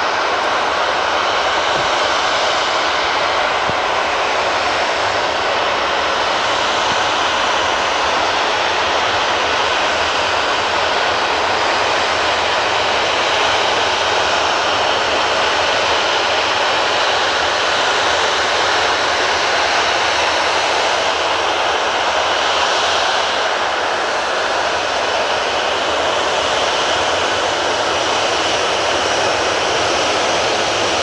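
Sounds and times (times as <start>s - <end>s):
jet engines at low power: 0.0s - 31.0s.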